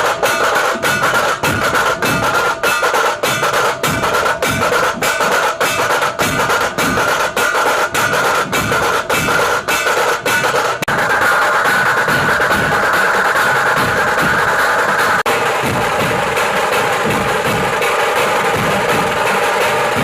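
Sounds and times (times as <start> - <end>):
fast steady drum beat: 0.0 - 20.0.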